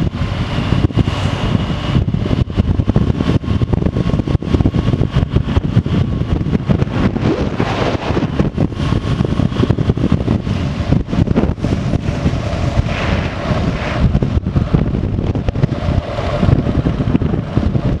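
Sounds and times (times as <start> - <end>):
motorcycle engine: 0.0 - 18.0
wind buffeting microphone: 0.0 - 18.0.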